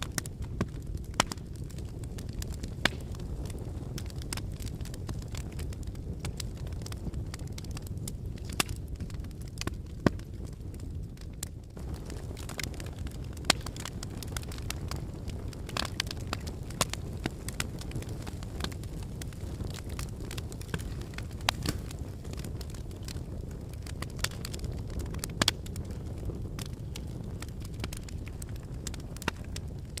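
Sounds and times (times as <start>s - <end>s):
logs crackling and popping: 0.0s - 30.0s
low rush of flame: 0.0s - 30.0s.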